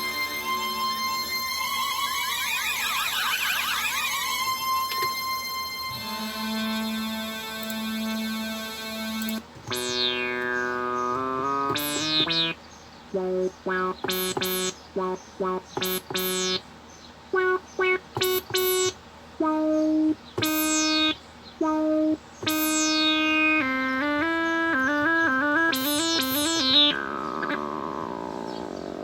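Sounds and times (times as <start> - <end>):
synthesizer chords with filter sweep: 0.0 - 12.6, 13.2 - 16.6, 17.4 - 28.5.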